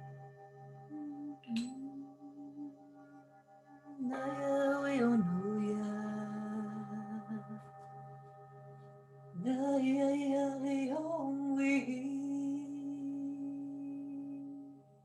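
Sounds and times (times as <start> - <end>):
person singing long held notes: 0.9 - 3.1, 3.9 - 8.3, 9.3 - 14.9.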